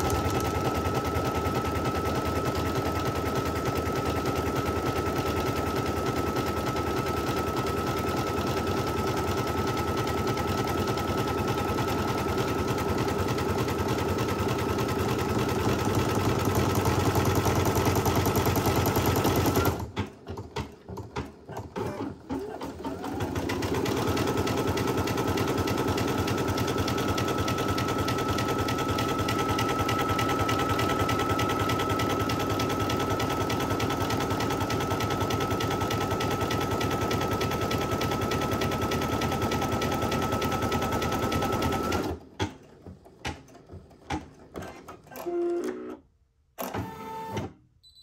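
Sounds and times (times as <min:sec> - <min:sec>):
embroidery machine stitching: 0:00.0 - 0:46.0, 0:46.6 - 0:47.6.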